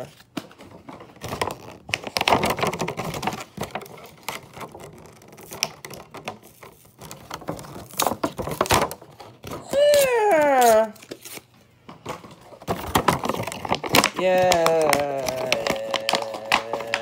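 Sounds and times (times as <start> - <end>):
packaging clicking and rustling: 0.3 - 17.0.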